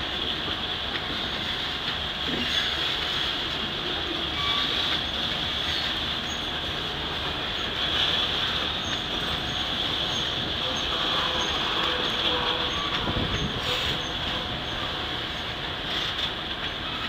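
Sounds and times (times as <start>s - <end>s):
freight train rolling past: 0.0s - 17.0s.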